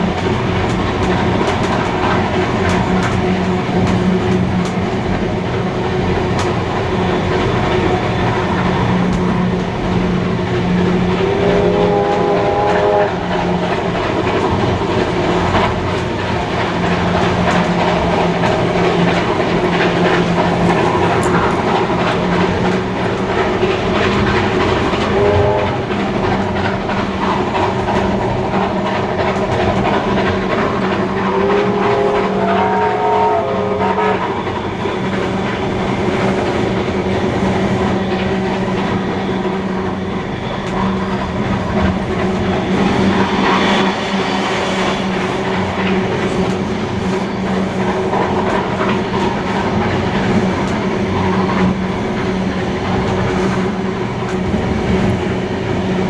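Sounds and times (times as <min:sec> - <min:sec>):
train wheels clickety-clack: 0:00.0 - 0:56.0
steam locomotive whistle: 0:06.0 - 0:56.0.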